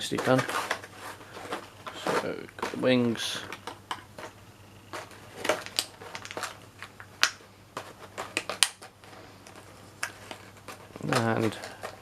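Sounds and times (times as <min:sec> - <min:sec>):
plastic parts clicking and tapping: 0:00.0 - 0:12.0
rustling: 0:00.0 - 0:12.0.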